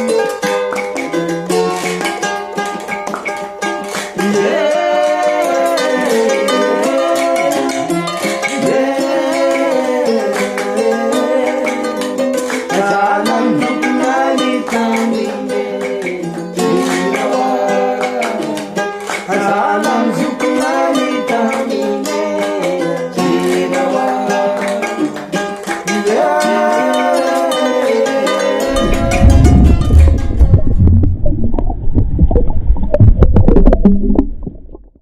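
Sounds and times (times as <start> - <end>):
plucked string music: 0.0 - 35.0.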